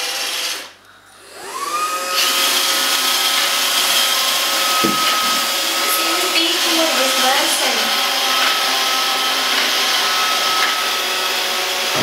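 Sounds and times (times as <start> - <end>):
robot vacuum motor whine: 0.0 - 12.0.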